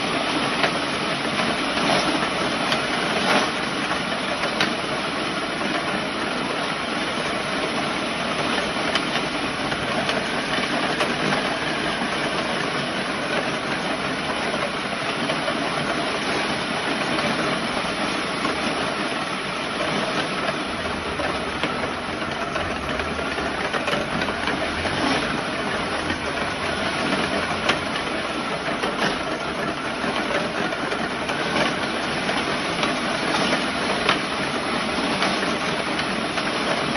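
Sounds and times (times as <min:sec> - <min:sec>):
treadmill motor and belt: 0:00.0 - 0:36.9.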